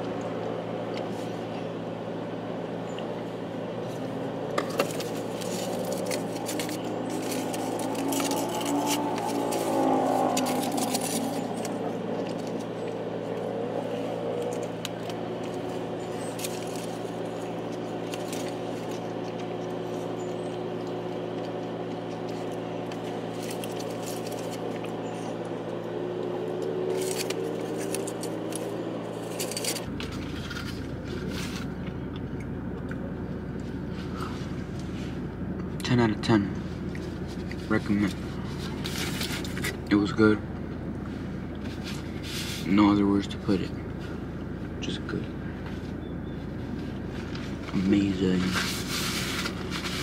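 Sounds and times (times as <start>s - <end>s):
low room hum: 0.0s - 50.0s.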